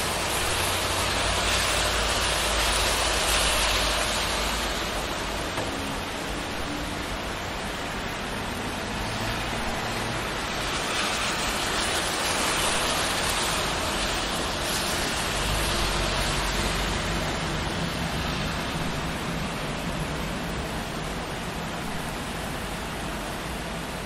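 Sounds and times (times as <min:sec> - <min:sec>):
car tyres on wet road: 0:00.0 - 0:24.0
rain on a street: 0:00.0 - 0:24.0.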